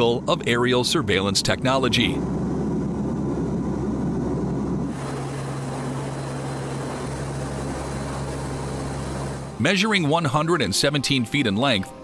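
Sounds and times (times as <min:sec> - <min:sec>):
low hum with hiss: 0:00.0 - 0:12.0
turboprop engines droning: 0:00.0 - 0:12.0.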